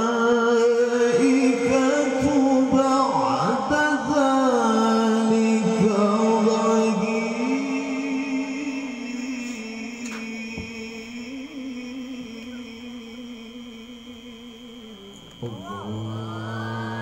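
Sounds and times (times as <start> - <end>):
low held tone: 0.0 - 17.0
man reciting melodically: 0.0 - 17.0.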